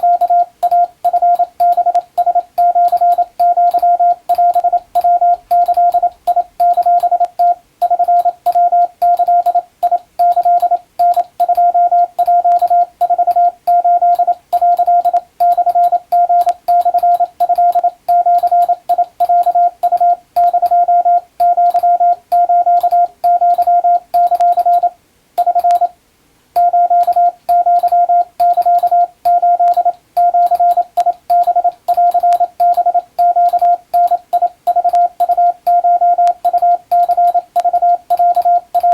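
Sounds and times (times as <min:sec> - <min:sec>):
morse code beeps: 0:00.0 - 0:26.0, 0:26.6 - 0:38.9.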